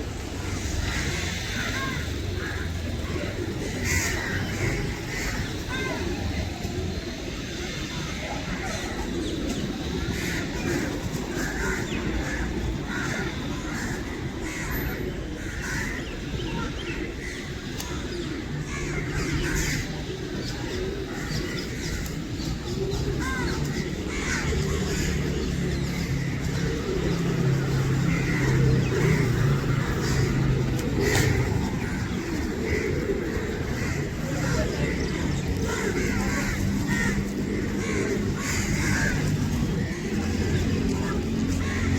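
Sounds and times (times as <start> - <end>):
flock of birds calling: 0.0 - 41.9.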